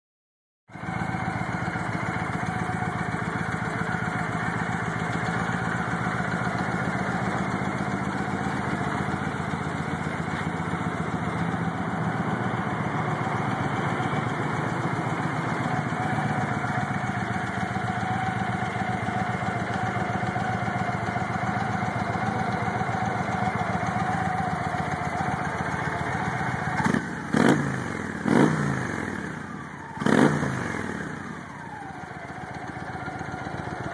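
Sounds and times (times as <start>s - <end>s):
motorcycle engine idling: 0.7s - 33.9s
motorcycle engine revving: 0.7s - 33.9s.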